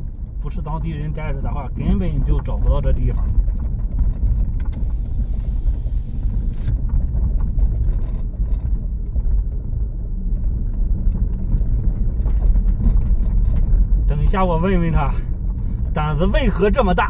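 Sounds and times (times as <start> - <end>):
rattles and knocks: 0.0 - 16.6
engine and tyres rumbling: 0.0 - 17.0.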